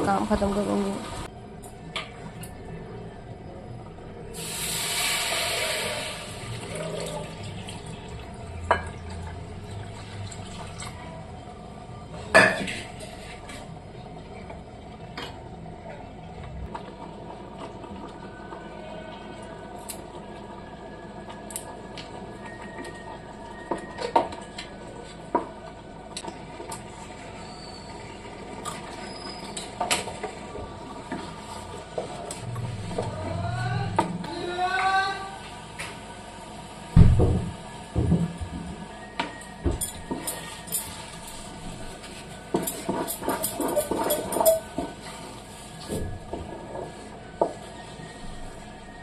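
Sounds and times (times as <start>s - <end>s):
halwa hissing and bubbling in a pan: 0.0s - 1.3s, 2.2s - 15.6s, 21.8s - 49.0s.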